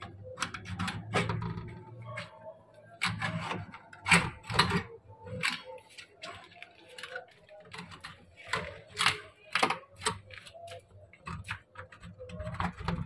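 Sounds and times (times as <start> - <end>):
wire scraping metal window frame: 0.0 - 13.0.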